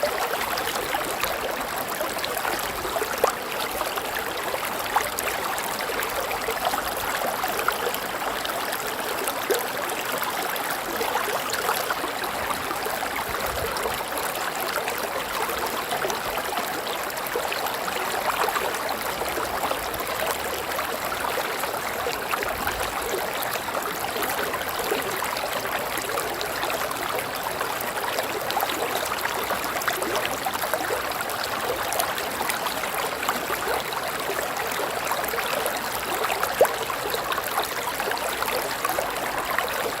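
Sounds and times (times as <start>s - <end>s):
river water flowing: 0.0s - 40.0s.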